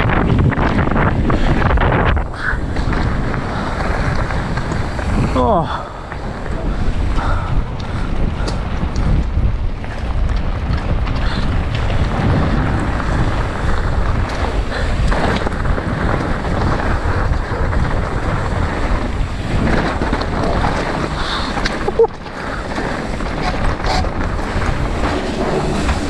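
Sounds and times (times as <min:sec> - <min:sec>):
strong wind rumbling: 0:00.0 - 0:26.0.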